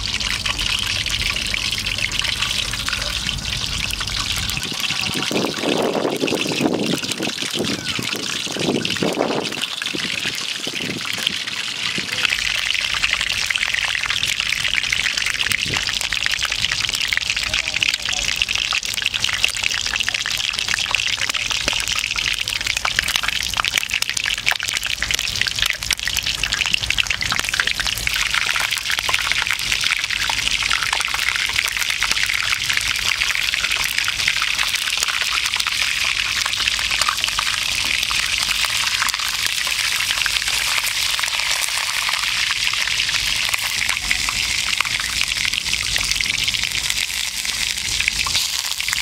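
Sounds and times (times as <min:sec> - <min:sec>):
oil sizzling and crackling: 0:00.0 - 0:49.0.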